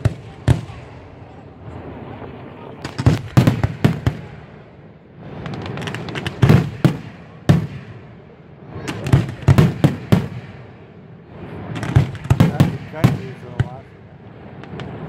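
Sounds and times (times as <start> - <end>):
fireworks bangs: 0.0 - 2.2, 2.8 - 15.0.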